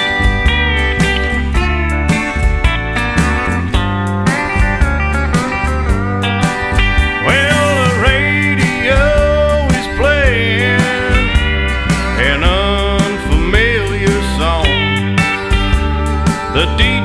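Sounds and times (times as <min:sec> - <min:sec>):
bass and drum beat: 0:00.0 - 0:17.0
country music: 0:00.0 - 0:17.0
steel guitar slide notes: 0:00.0 - 0:17.0.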